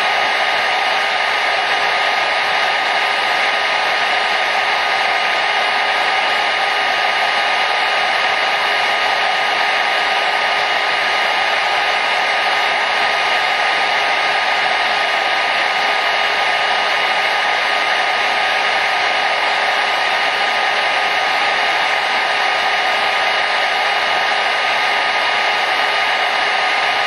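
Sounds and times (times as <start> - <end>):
hair dryer running: 0.0 - 27.0.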